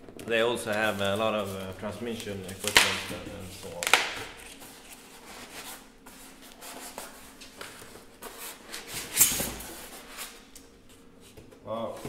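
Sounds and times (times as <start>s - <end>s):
cardboard flaps and packing rustling: 0.0s - 10.5s.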